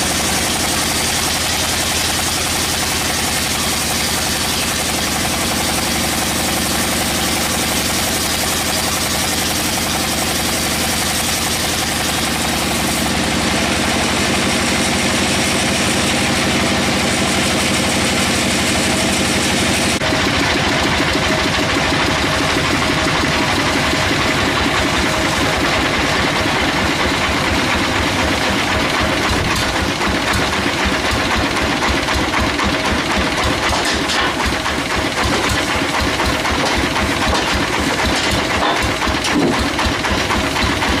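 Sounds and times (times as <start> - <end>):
sawmill engine running: 0.0 - 41.0.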